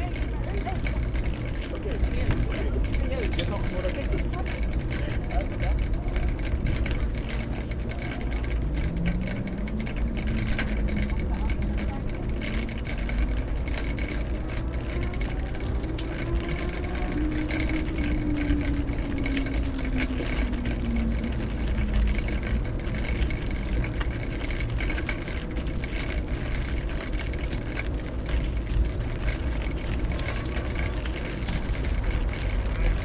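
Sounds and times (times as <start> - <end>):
low traffic rumble: 0.0 - 33.0
vehicle engine passing: 0.0 - 33.0.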